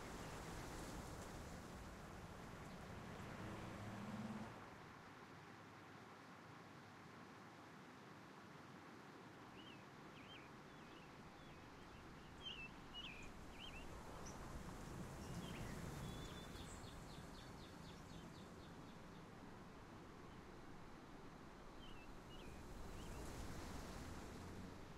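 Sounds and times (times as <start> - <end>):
low background noise: 0.0 - 24.9.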